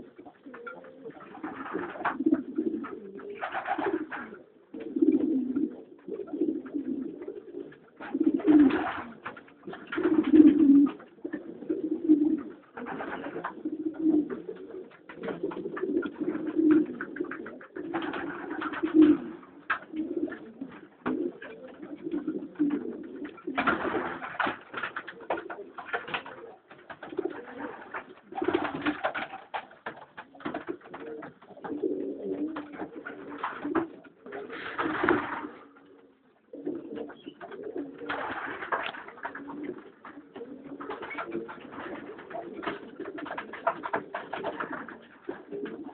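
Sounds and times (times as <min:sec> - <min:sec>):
pigeons cooing: 0:00.0 - 0:45.9.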